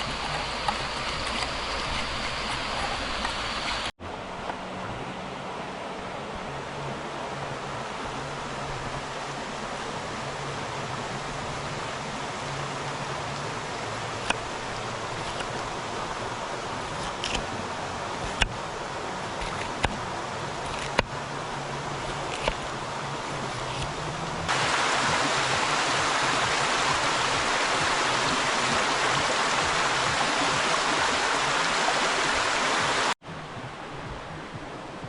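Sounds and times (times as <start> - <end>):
river water rushing over stones: 0.0 - 33.2.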